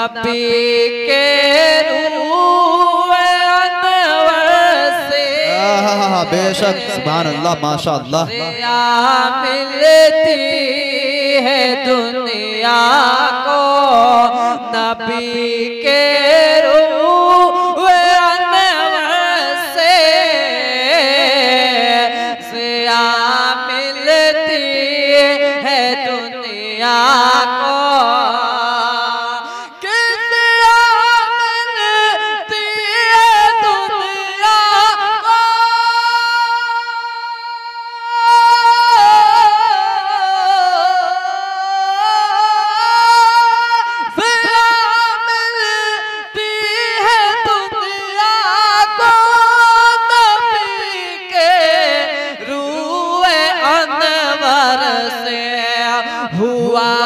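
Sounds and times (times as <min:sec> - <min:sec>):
man singing unaccompanied: 0:00.0 - 0:57.0.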